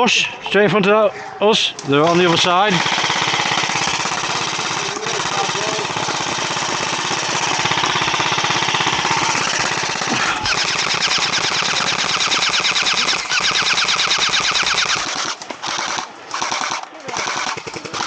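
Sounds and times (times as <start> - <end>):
airsoft gun firing full auto: 2.0 - 18.0.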